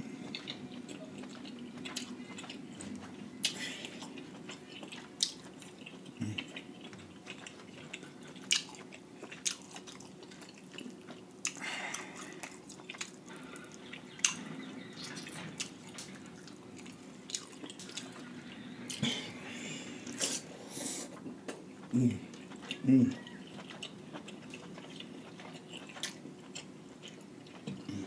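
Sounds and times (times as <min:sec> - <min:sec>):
wet chewing and lip-smacking: 0:00.2 - 0:19.2, 0:21.1 - 0:28.0.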